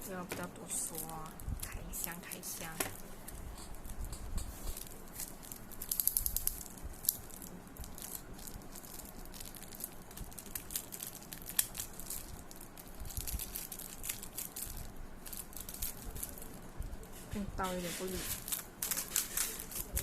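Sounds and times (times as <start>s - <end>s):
packaging crinkling and tearing: 0.1s - 16.7s, 17.9s - 20.0s.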